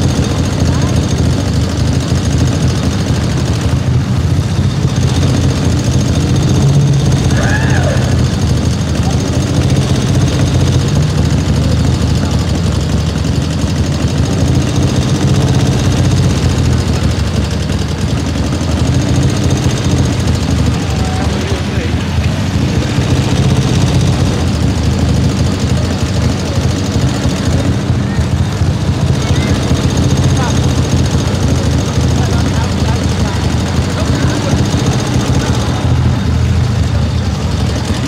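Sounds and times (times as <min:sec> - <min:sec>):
motorcycle engine idling: 0:00.0 - 0:38.0.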